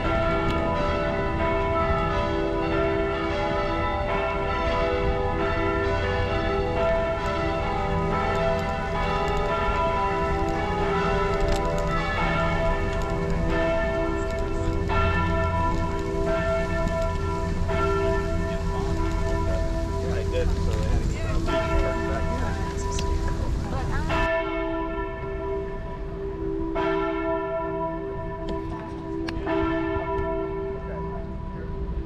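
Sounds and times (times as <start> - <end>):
church bells pealing: 0.0 - 32.0.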